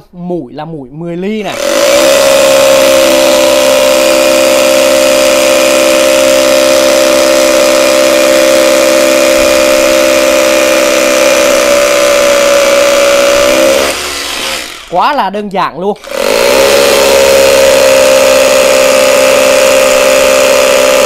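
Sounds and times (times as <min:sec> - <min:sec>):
rotary hammer drilling concrete: 0:01.4 - 0:15.2, 0:16.0 - 0:21.0.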